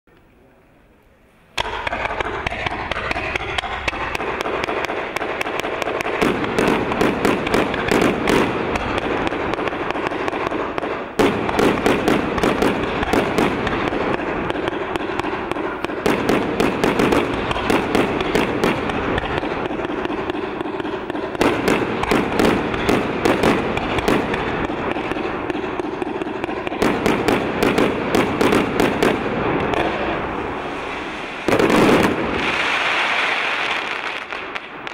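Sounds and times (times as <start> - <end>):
firework cracks and pops: 1.5 - 34.9
firework shots hissing: 1.5 - 34.9.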